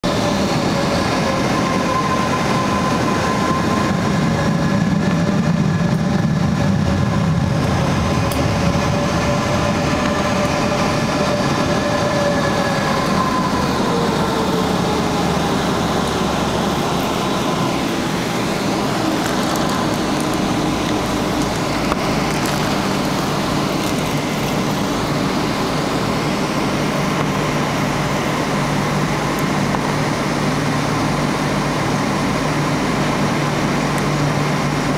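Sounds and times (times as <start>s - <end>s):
airplane cabin rumble: 0.0s - 34.9s
engine whining tones: 0.1s - 34.9s.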